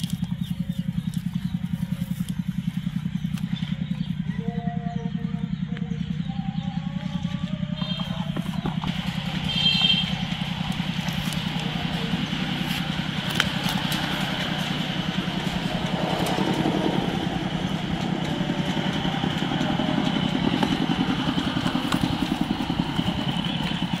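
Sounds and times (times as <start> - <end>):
faint voices: 0.0 - 24.0
small engine running: 0.0 - 24.0.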